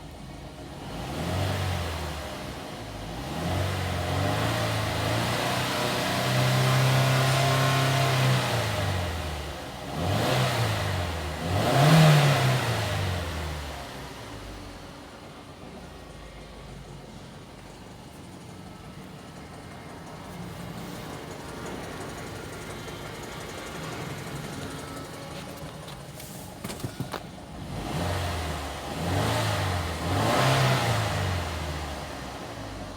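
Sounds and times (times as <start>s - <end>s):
car engine revving: 0.8s - 14.9s, 17.3s - 32.9s.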